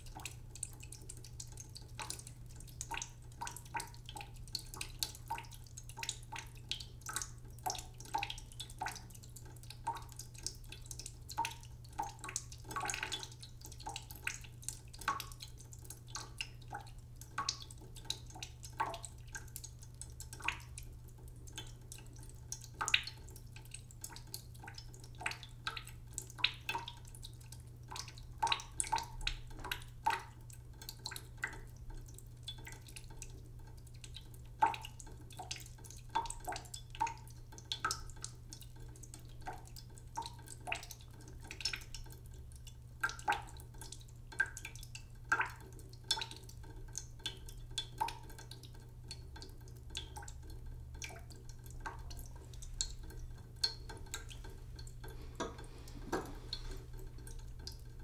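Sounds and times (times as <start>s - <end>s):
water dripping into a pot: 0.0s - 58.0s.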